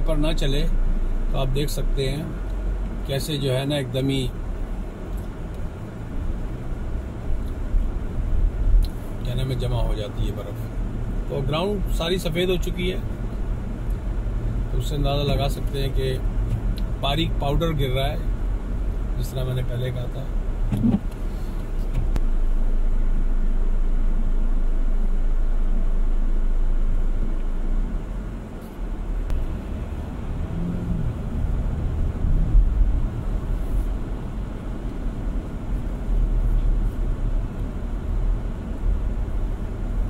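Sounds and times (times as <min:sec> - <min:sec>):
low rumble inside car: 0:00.0 - 0:40.0.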